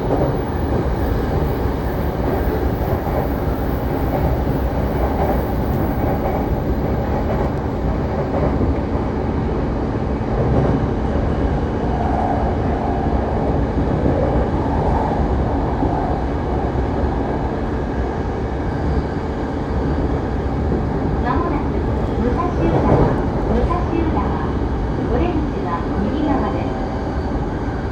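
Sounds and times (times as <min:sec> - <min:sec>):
train wheels rumbling on rails: 0:00.0 - 0:16.2, 0:17.7 - 0:27.9.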